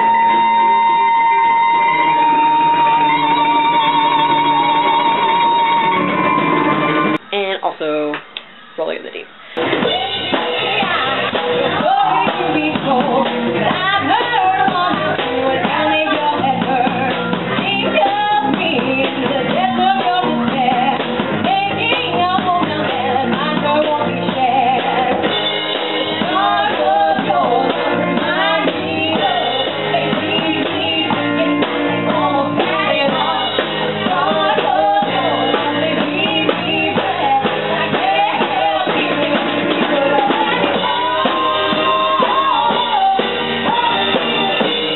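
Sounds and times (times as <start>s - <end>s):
woman singing into microphone: 0.0s - 6.4s, 9.8s - 44.9s
small live band: 0.0s - 7.4s, 8.0s - 44.9s
conga drums: 0.0s - 44.9s.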